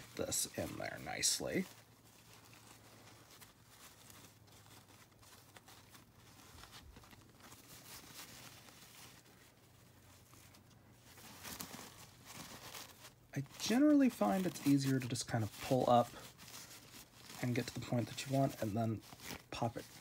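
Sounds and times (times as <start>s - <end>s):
fabric rustling: 0.0s - 20.0s.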